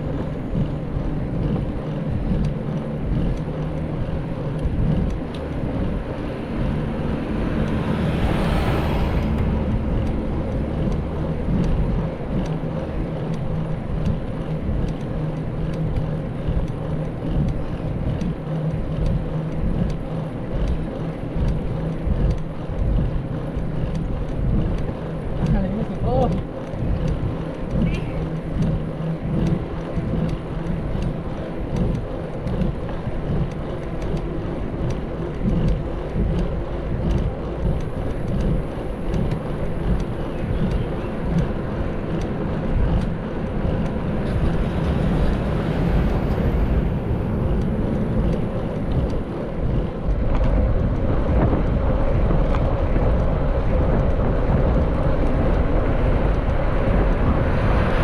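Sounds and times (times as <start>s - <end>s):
mountain bike rumble: 0.0s - 58.0s
wind buffeting microphone: 0.0s - 58.0s.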